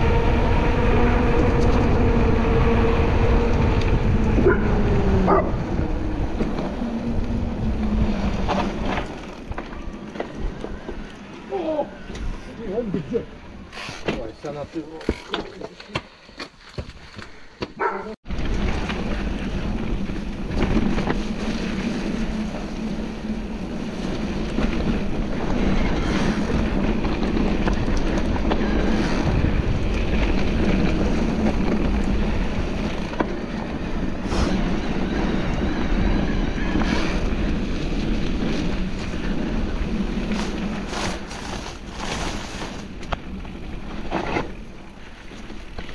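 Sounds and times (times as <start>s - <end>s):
wind buffeting microphone: 0.0s - 13.7s, 18.3s - 45.9s.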